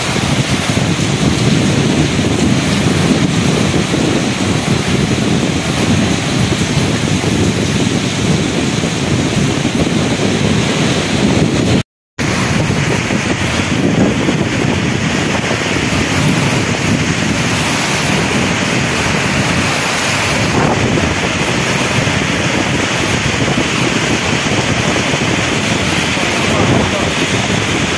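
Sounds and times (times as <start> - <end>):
heavy rain: 0.0 - 27.9
strong storm wind: 0.0 - 27.9.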